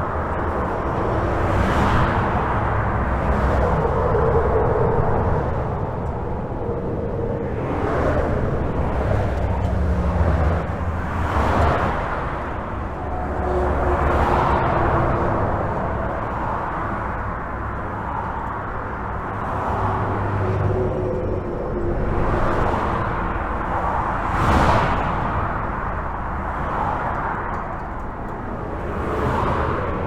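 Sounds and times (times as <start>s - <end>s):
highway traffic rumble: 0.0s - 30.0s
vehicles passing: 0.0s - 30.0s.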